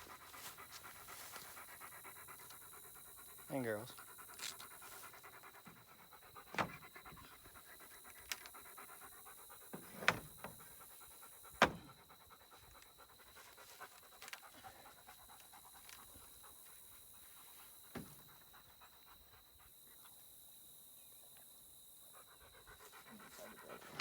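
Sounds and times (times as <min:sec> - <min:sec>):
dog panting: 0:00.0 - 0:20.4, 0:21.8 - 0:24.0.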